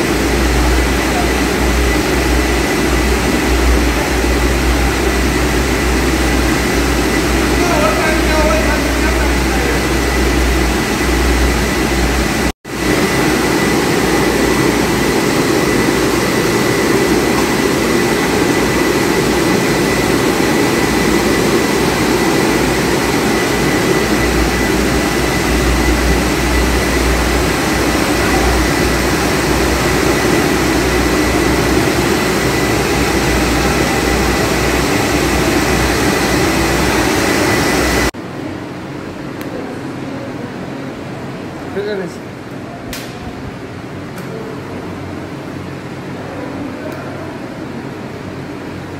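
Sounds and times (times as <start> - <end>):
high machine whine: 0.0 - 48.9
machinery drone of motors and blowers: 0.0 - 48.9.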